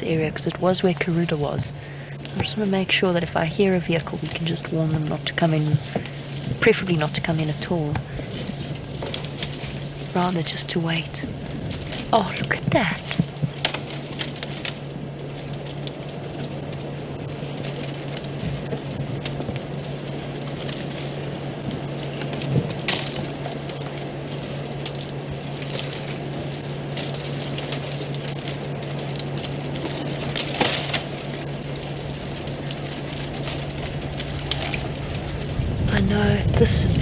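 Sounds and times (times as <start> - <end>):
dry vegetation crackling: 0.0 - 37.0
steady low hum: 0.0 - 37.0.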